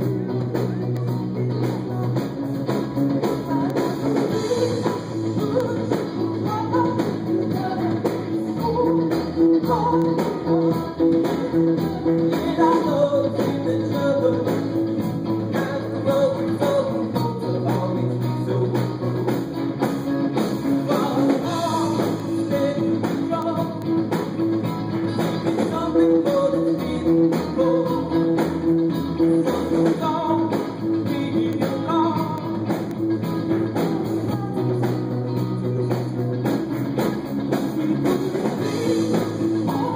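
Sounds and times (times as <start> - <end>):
person singing: 0.0 - 19.5, 20.6 - 39.9
band playing with electric guitars: 0.0 - 39.9.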